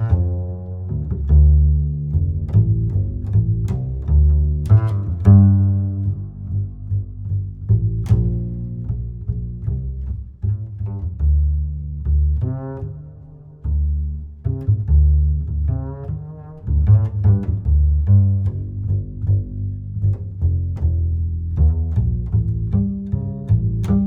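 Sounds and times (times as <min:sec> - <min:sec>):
low plucked instrumental music: 0:00.0 - 0:24.0.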